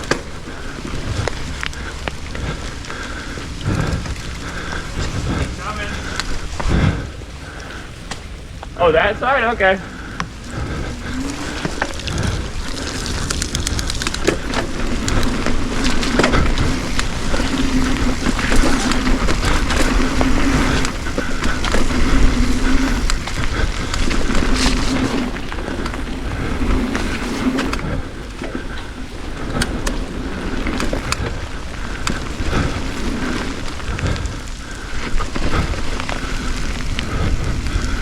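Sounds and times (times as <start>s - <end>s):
tyres rolling over dirt: 0.0s - 38.0s
wind rumbling on microphone: 0.0s - 38.0s.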